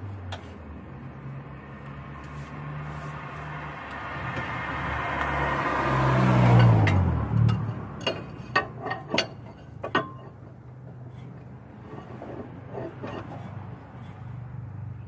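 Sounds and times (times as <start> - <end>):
vehicle passing by: 0.0 - 9.6, 11.0 - 15.0.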